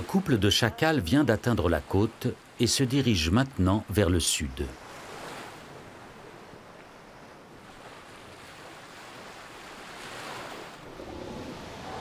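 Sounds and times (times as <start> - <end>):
waves breaking on sandy shore: 0.0 - 12.0.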